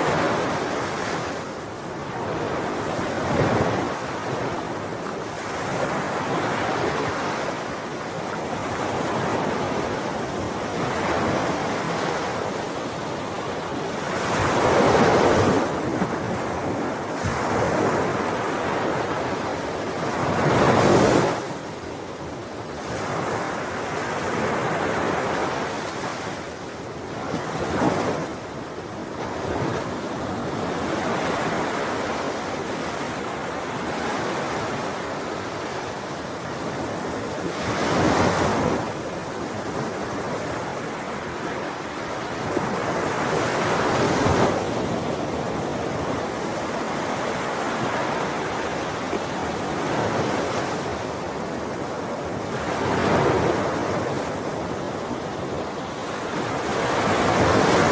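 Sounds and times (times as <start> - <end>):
sea waves breaking on shore: 0.0 - 57.9.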